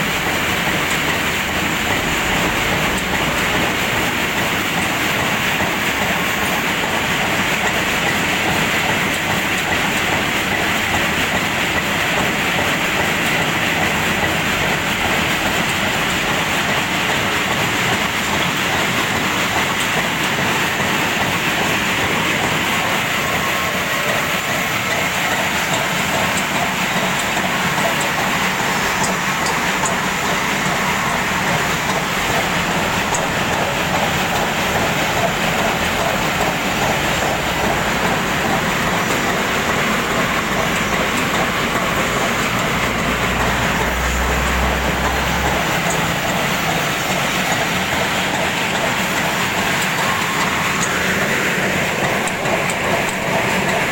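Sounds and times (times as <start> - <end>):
sorting machine rattling: 0.0 - 53.9.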